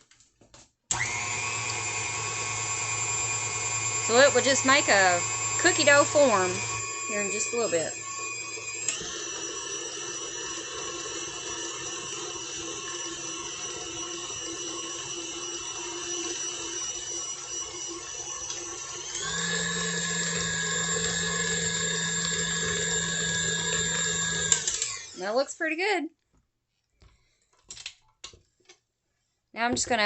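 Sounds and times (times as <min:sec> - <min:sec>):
stand mixer motor whining: 0:00.9 - 0:25.3.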